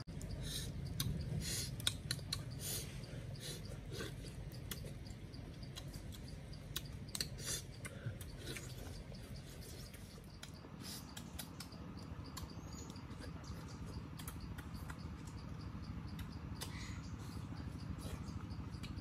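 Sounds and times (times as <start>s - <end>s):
low steady hum: 0.0s - 19.0s
chewing and lip-smacking: 0.1s - 19.0s.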